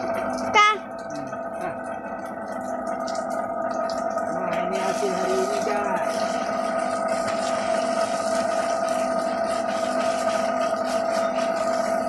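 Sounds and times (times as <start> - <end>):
motor running steadily: 0.0 - 12.0.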